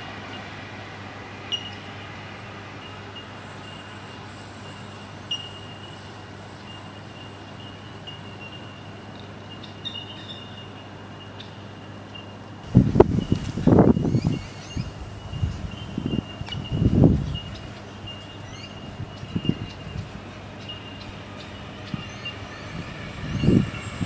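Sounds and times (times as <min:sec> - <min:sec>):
distant electric train: 0:00.0 - 0:24.0
wheel squeal: 0:01.5 - 0:01.9, 0:02.6 - 0:11.0, 0:13.0 - 0:24.0.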